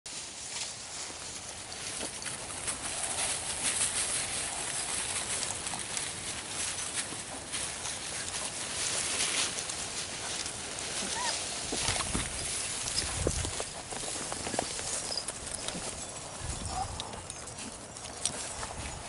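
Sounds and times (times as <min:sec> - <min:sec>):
paws scuffing on dry leafy dirt: 0:00.1 - 0:19.0.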